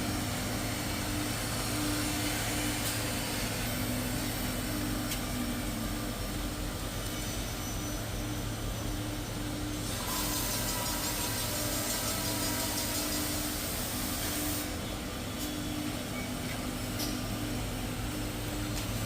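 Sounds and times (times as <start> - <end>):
drilling machine hum: 0.0 - 19.0.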